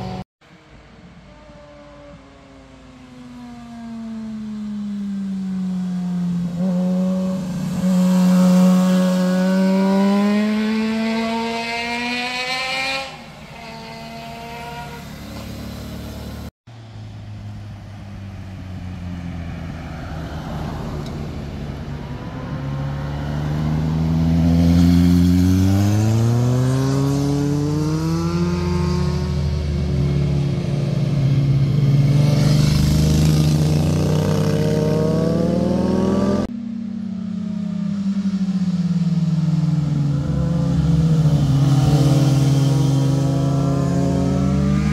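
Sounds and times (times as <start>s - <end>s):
motorcycle engines revving: 0.0s - 0.3s, 3.3s - 16.5s, 17.8s - 44.9s.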